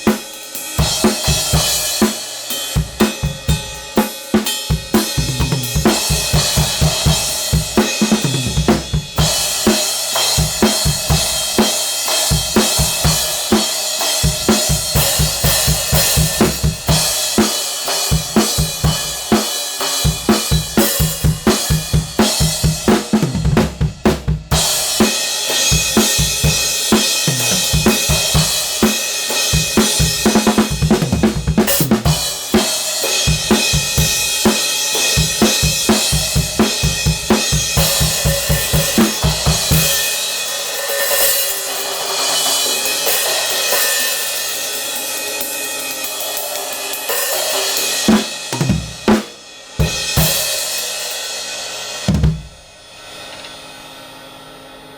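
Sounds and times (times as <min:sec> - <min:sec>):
drum kit groove: 0:00.0 - 0:53.6.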